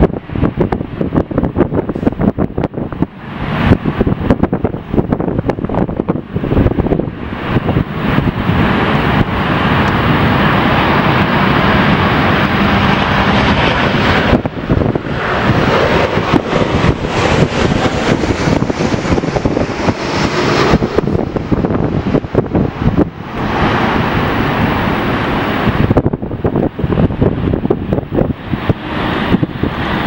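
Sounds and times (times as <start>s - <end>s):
jet engine noise: 0.0s - 30.0s
wind gusting on microphone: 0.0s - 30.0s.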